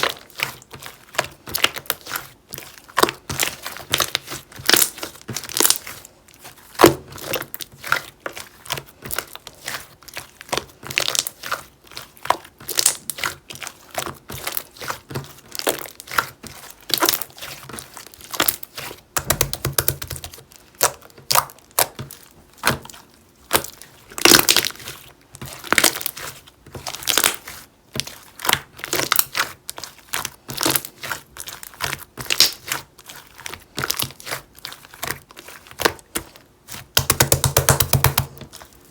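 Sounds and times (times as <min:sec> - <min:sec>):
slime squished by hand: 0:00.0 - 0:38.9.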